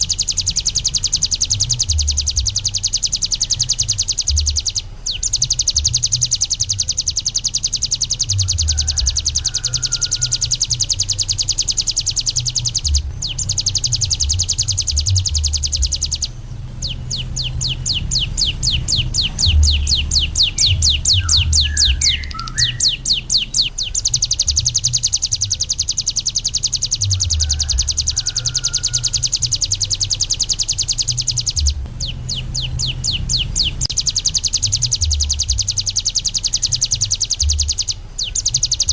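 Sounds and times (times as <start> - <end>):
bird singing rapid high trill: 0.0 - 38.9
low rumble: 0.0 - 38.9.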